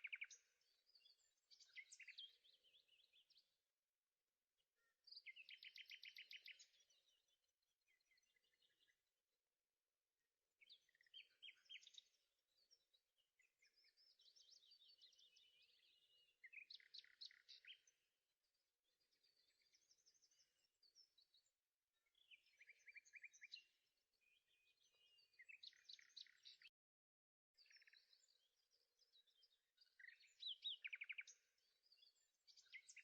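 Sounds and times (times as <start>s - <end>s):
faint songbirds chirping: 0.0s - 33.0s.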